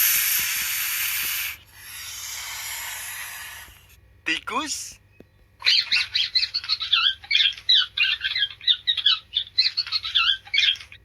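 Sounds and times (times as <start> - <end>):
rodent squeaking: 0.0 - 4.0, 5.6 - 11.0.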